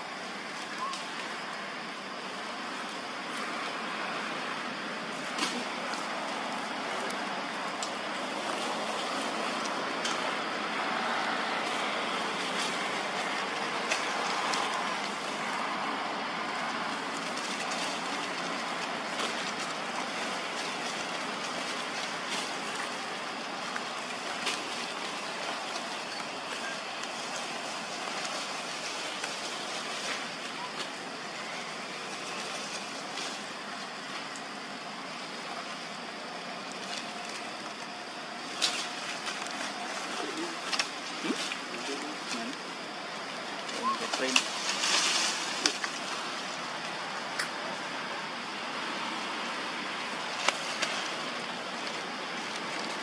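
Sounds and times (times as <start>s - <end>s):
outdoor background rush: 0.0s - 53.0s.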